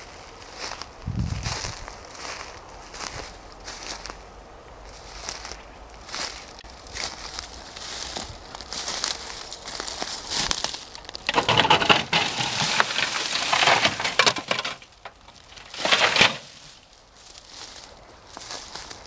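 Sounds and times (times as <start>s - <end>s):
dry leaves and twigs crunching: 0.0s - 19.0s.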